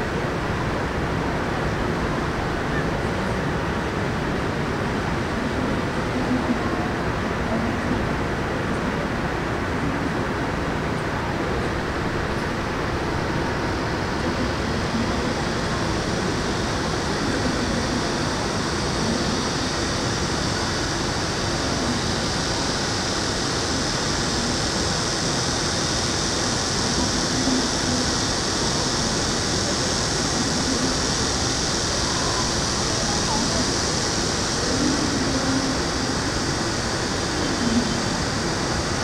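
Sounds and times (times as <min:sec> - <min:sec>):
city ambience: 0:00.0 - 0:39.0
faint voices of passers-by: 0:00.0 - 0:39.0.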